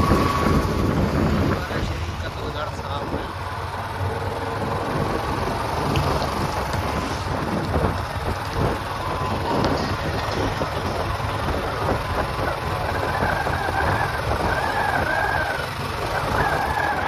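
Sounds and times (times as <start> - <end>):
wind rumble on microphone: 0.0 - 3.4, 4.0 - 17.0
vehicle engine and road noise: 0.0 - 17.0.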